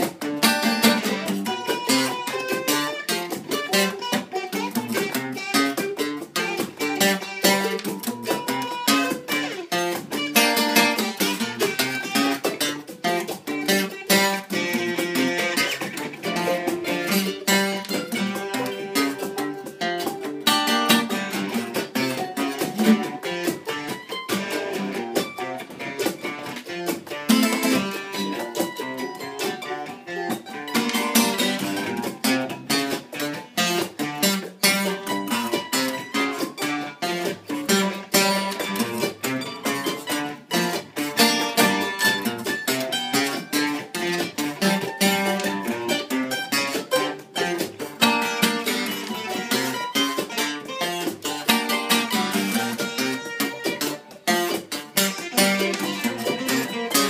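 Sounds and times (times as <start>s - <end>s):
acoustic guitars strumming: 0.0s - 57.0s
banjo picking: 0.0s - 57.0s
cajon beat: 0.0s - 57.0s
mandolins: 0.0s - 57.0s.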